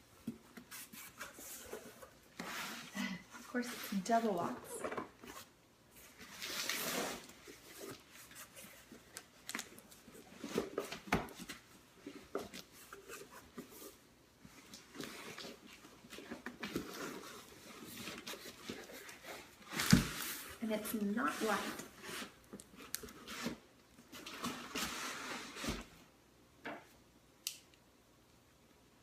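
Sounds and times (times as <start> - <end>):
cardboard rustling and scraping: 0.2 - 26.0.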